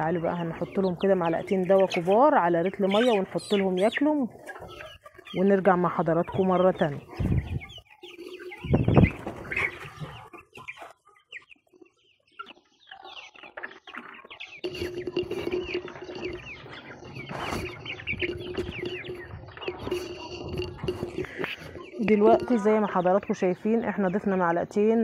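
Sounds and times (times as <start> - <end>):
chicks and ducklings peeping: 0.0 - 25.0.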